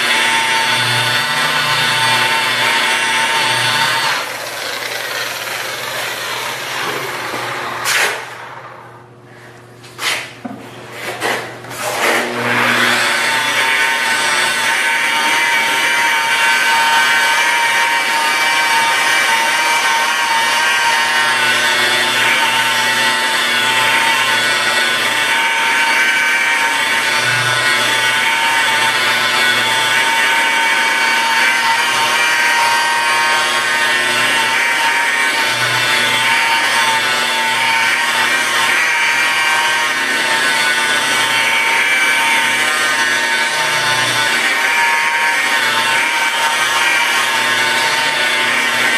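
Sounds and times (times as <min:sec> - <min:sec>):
electric rotary polisher running: 0:00.0 - 0:08.9, 0:11.8 - 0:48.9.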